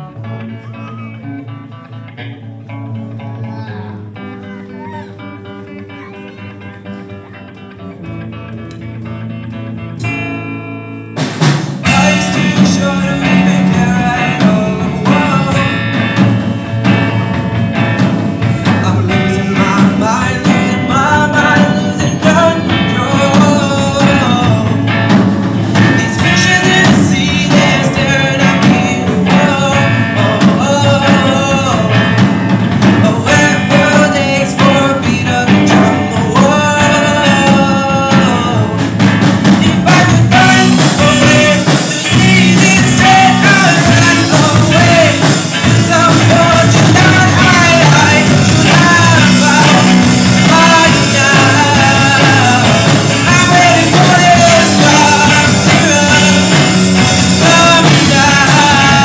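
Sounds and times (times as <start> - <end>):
person singing: 0.0 - 8.0, 11.8 - 59.0
rock song with guitar and band: 0.0 - 59.0.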